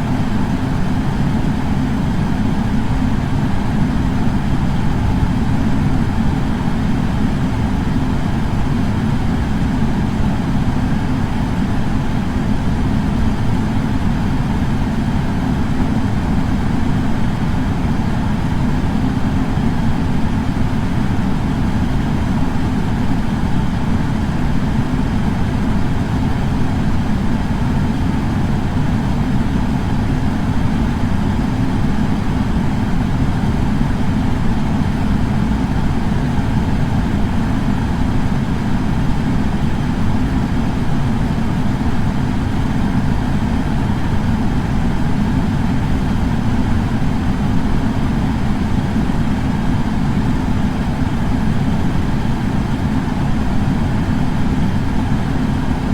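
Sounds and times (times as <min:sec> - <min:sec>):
air purifier fan humming: 0:00.0 - 0:55.9.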